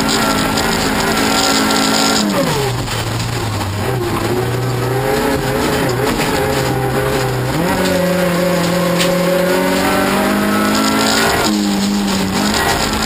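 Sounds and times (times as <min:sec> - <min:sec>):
race car engine from inside: 0:00.0 - 0:13.0.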